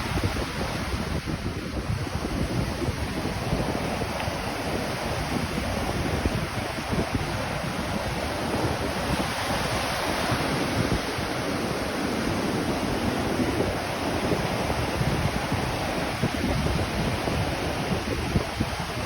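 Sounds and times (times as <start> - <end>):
ocean surf washing: 0.0 - 19.0
wind buffeting microphone: 0.0 - 19.0.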